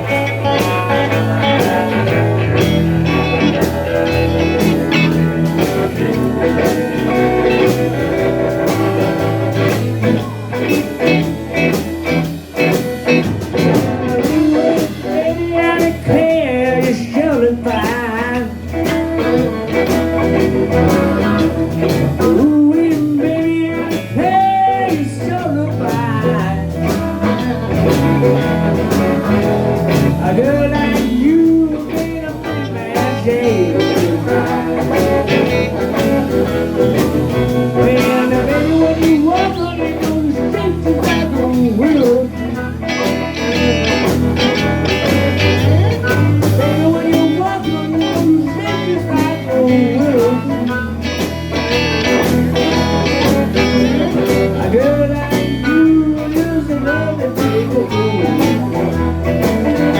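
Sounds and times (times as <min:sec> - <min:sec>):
blues guitar lead with bending notes: 0:00.0 - 0:59.9
steady bass line: 0:00.0 - 0:59.9.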